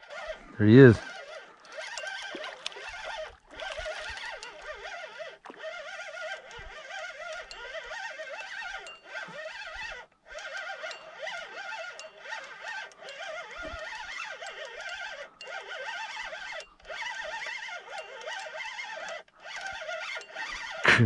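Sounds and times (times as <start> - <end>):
fishing reel whirring: 0.0 - 21.0.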